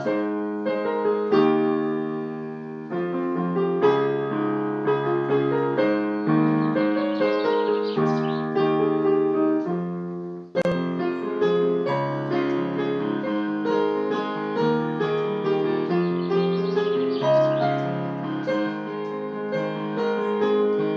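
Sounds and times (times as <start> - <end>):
solo piano playing: 0.0 - 20.9.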